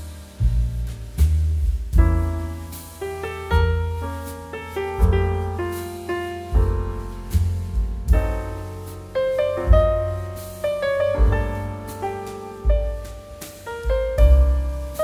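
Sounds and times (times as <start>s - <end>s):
deep bass note: 0.0s - 15.0s
piano notes: 0.0s - 15.0s.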